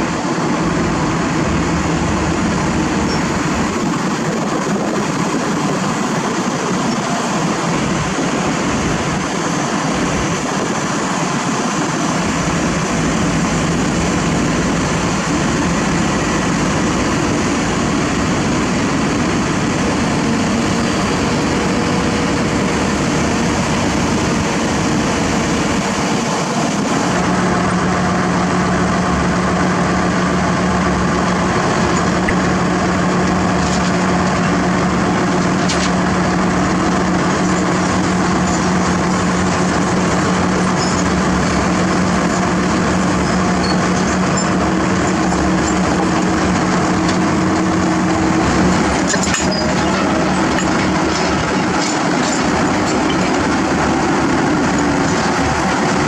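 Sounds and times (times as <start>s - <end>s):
excavator diesel engine running: 0.0s - 56.0s
steel tracks rumbling and clanking: 0.0s - 56.0s.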